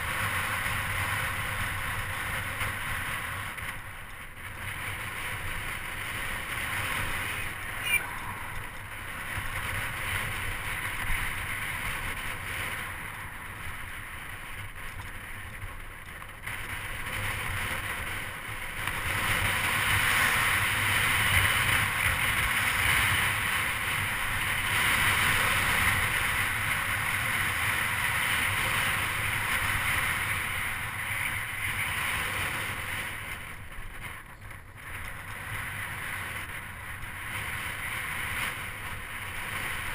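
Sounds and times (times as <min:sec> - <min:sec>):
tyres rolling on asphalt: 0:00.0 - 0:39.9
wind noise on microphone: 0:00.0 - 0:39.9.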